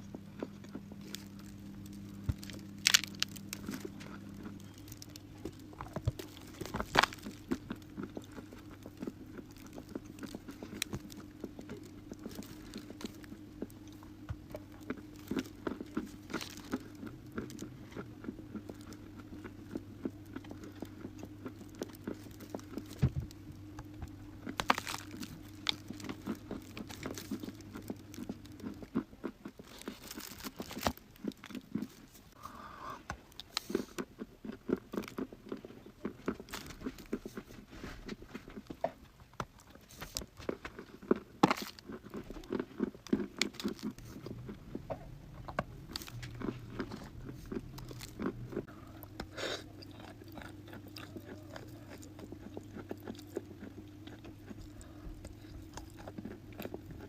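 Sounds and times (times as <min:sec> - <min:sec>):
chewing crunchy chalk: 0:00.0 - 0:32.4, 0:33.0 - 0:57.0
low steady hum: 0:00.0 - 0:57.0.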